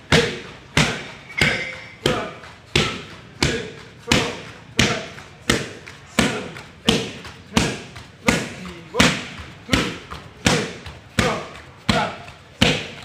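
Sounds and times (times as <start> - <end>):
kicks and punches smacking pads: 0.0 - 13.0.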